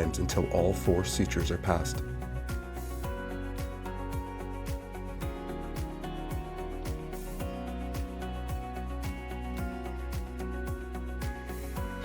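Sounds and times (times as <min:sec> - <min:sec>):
soft upbeat background music: 0:00.0 - 0:12.0.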